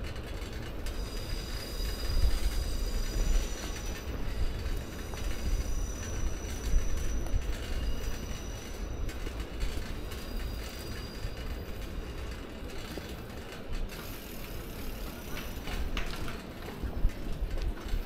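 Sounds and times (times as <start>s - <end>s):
bicycle clicks and rattles: 0.0s - 18.0s
bicycle road noise: 0.0s - 18.0s
wind: 0.0s - 18.0s.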